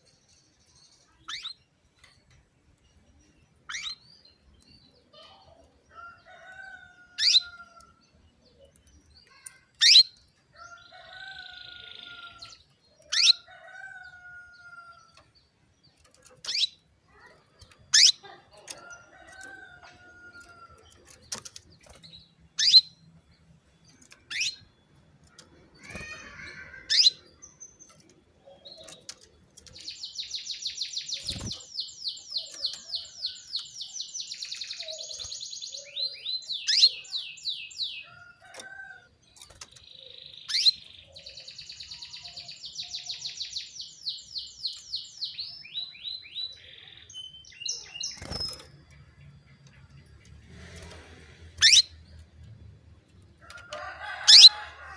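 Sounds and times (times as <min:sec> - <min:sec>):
canary calling and trilling: 0:00.3 - 0:52.4, 0:53.2 - 0:54.9.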